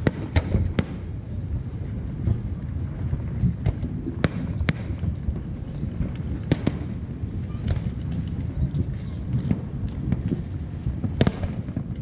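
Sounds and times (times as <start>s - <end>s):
fireworks bangs: 0.0s - 12.0s
low rumble of fireworks: 0.0s - 12.0s.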